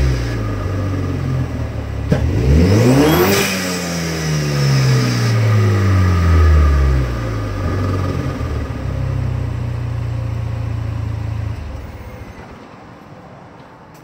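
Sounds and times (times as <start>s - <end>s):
car engine revving and idling: 0.0s - 12.6s.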